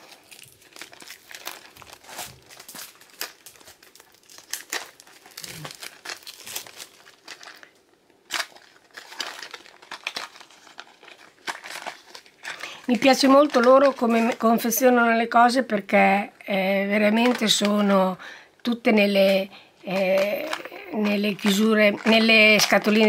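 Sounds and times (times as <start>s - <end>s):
plastic wrapping crinkling: 0.0s - 15.7s, 17.0s - 23.0s.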